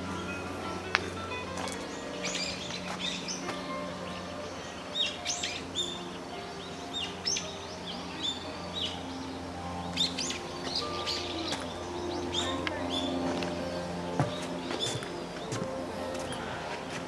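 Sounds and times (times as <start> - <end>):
small birds chirping: 0.0 - 17.0
soft background music: 0.0 - 17.0.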